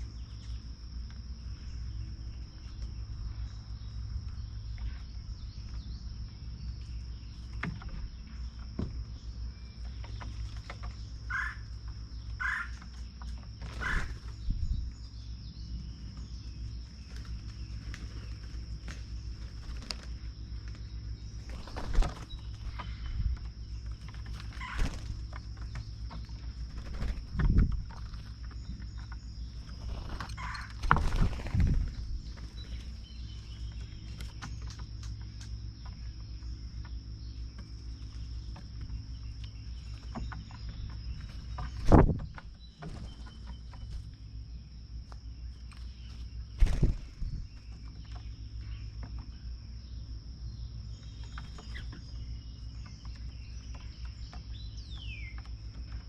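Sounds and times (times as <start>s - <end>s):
faint bird chirps: 0.0s - 56.0s
high insect drone: 0.0s - 56.0s.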